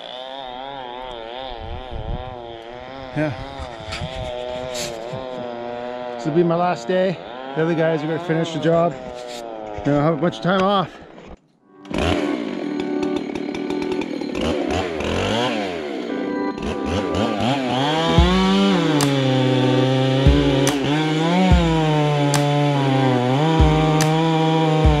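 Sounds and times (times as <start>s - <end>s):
chainsaw revving: 0.0s - 11.2s, 11.8s - 25.0s.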